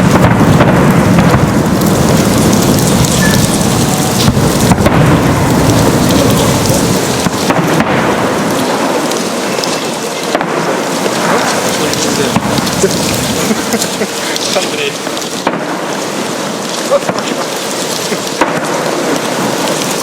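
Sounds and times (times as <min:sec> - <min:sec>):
fireworks booming and crackling: 0:00.0 - 0:20.0.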